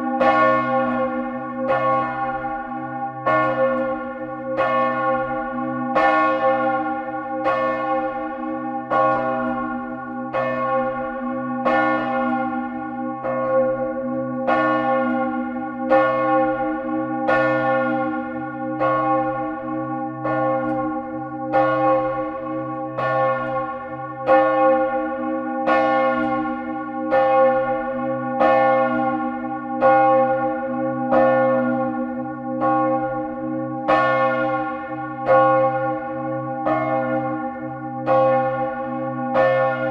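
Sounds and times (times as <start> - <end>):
church bell clapper striking: 0.0 - 39.9
continuous bell ringing hum: 0.0 - 39.9.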